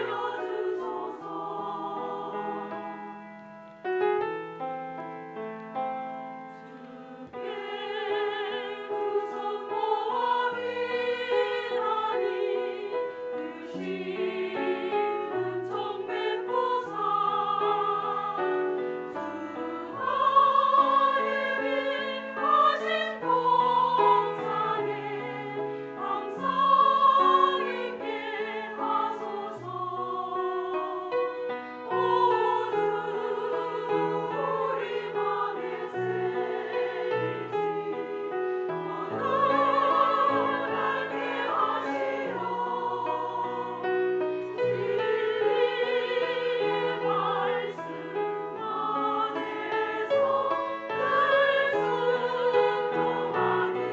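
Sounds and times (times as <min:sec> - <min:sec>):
women's choir singing a hymn: 0:00.0 - 0:04.3, 0:06.5 - 0:53.9
piano accompaniment: 0:00.0 - 0:53.9.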